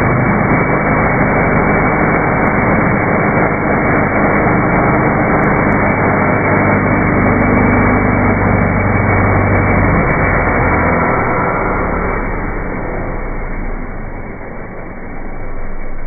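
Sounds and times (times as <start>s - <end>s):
motorcycle engine at held revs: 0.0s - 16.0s.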